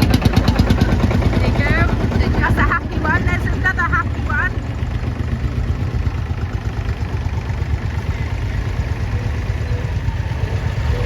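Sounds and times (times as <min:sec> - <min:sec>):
tractor engines idling: 0:00.0 - 0:11.0.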